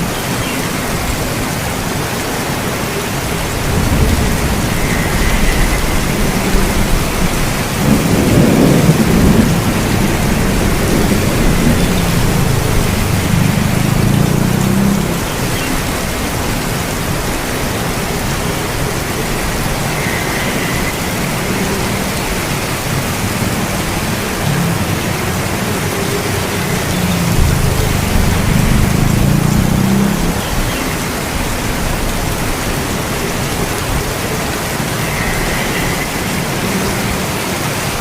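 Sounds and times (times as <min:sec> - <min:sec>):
rain falling: 0:00.0 - 0:38.0
low thunder rumble: 0:03.2 - 0:36.5.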